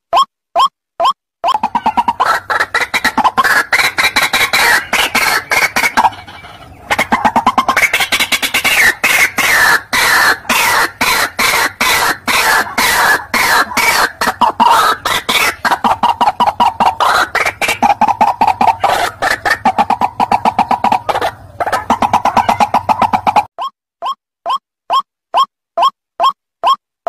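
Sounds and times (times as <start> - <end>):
waterhen calling: 1.5 - 23.4.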